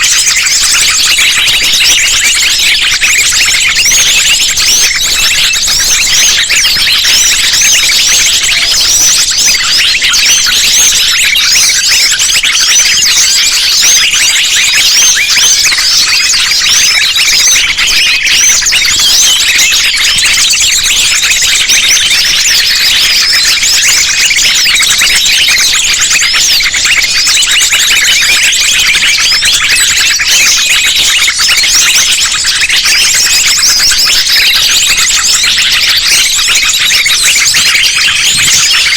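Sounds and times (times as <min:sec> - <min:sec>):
chorus of small songbirds chirping: 0:00.0 - 0:38.9.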